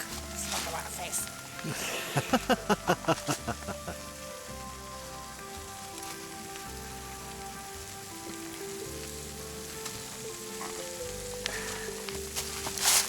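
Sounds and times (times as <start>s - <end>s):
music with slow held notes: 0.0s - 13.0s
sizzling hiss: 0.0s - 13.0s.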